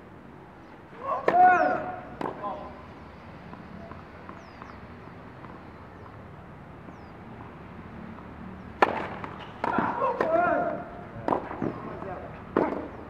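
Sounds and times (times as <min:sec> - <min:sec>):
outdoor background: 0:00.0 - 0:13.0.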